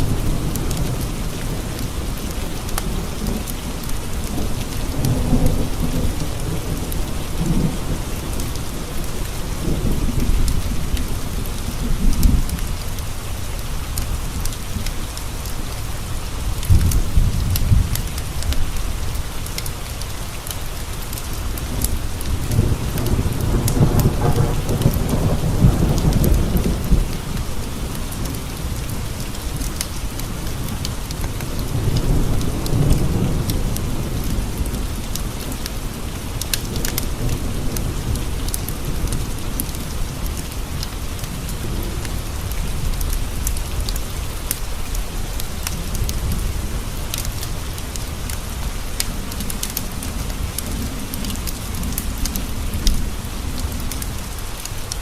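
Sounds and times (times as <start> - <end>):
low rolling thunder: 0.0 - 19.4, 20.8 - 54.9
rain pattering on a window: 0.0 - 55.0.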